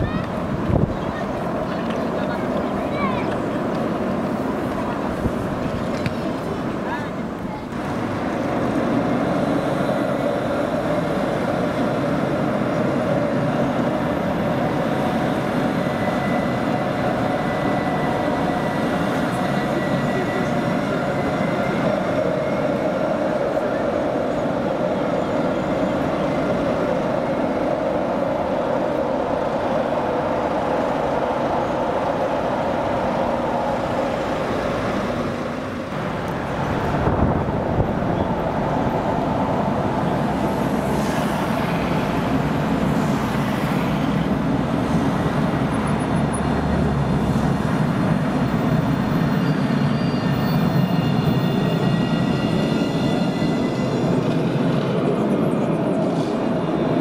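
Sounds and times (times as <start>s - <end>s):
tram rumbling on rails: 0.0s - 57.0s.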